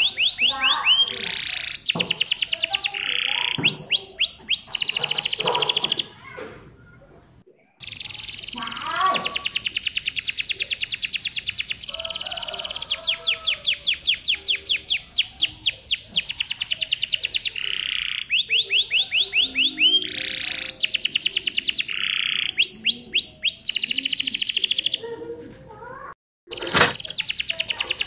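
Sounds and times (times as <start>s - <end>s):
canary singing: 0.0s - 7.2s, 7.8s - 28.0s.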